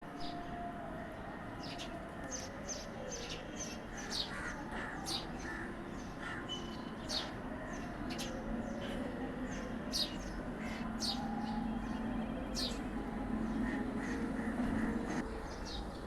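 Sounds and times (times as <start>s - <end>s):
birds chirping: 0.2s - 16.0s.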